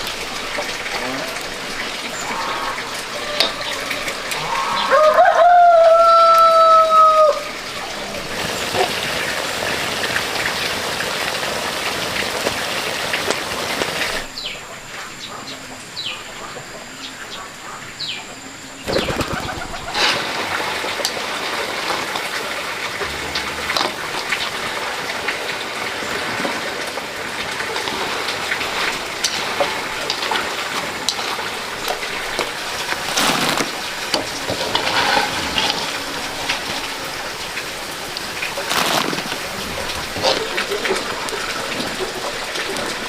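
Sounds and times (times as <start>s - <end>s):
heavy rain pouring: 0.0s - 15.2s, 18.8s - 43.0s
rain drips and patters: 0.0s - 16.7s, 18.8s - 43.0s.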